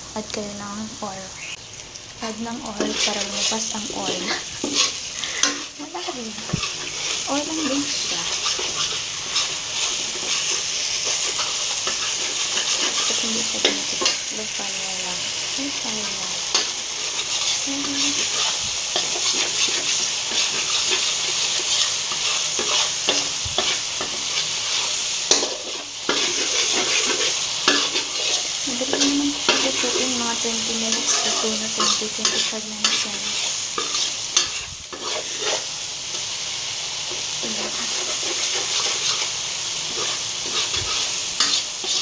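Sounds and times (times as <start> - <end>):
paste sizzling in a pan: 0.0 - 42.0
metal spoon scraping a pan: 2.6 - 14.6, 15.8 - 36.3, 37.1 - 42.0.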